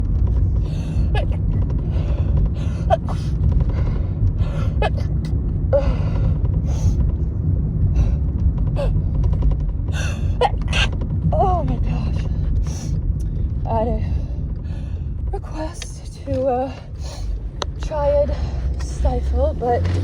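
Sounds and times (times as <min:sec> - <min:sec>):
low car rumble: 0:00.0 - 0:20.0.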